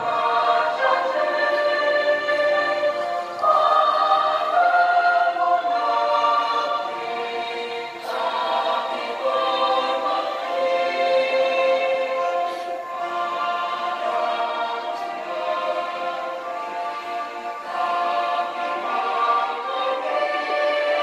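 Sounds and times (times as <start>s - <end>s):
choir singing patriotic song: 0.0s - 21.0s.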